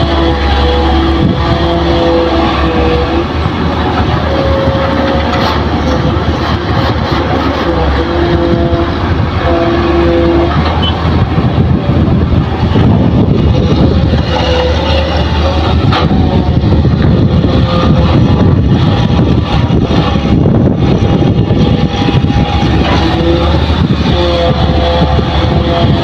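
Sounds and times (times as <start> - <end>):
diesel engine running under load: 0.0 - 26.0
hydraulic whine: 0.0 - 26.0.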